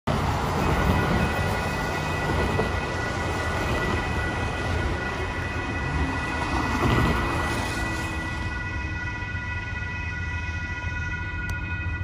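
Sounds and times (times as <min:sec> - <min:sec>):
railroad crossing bell ringing: 0:00.1 - 0:12.0.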